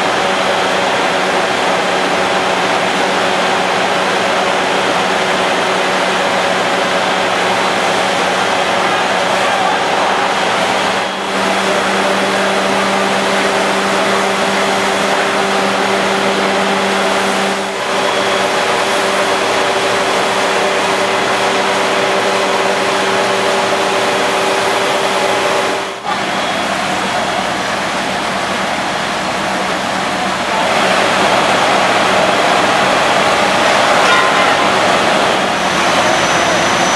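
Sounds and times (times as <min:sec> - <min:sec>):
fire truck engines running: 0:00.0 - 0:36.9.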